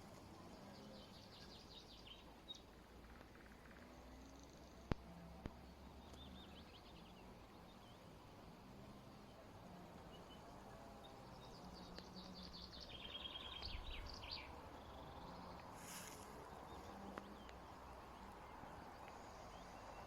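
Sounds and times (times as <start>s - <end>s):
songbird chirps and trill: 0.0s - 20.0s.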